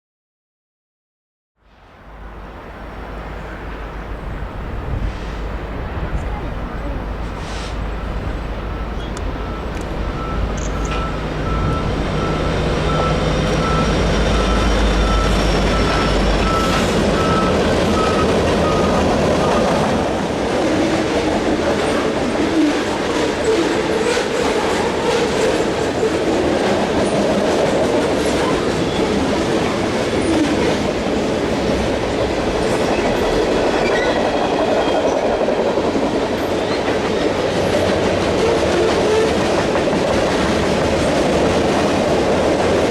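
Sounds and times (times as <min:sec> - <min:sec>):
diesel locomotive rumble: 0:01.9 - 0:42.9
freight cars clattering over rails: 0:03.7 - 0:42.9.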